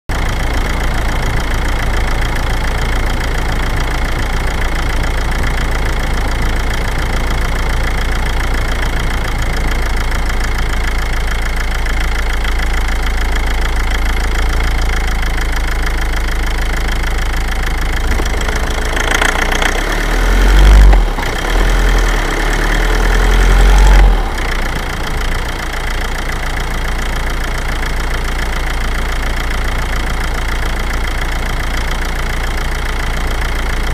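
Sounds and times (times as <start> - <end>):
diesel engine running: 0.1 - 33.9
engine knocking under load: 0.1 - 33.9.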